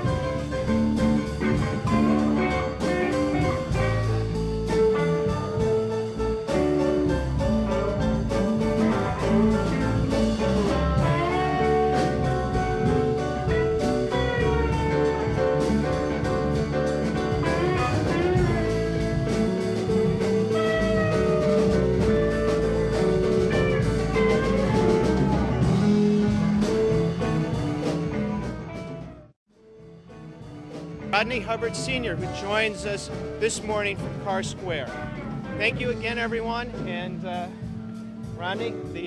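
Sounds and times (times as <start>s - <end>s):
bluesy jazzy background music: 0.0s - 39.0s.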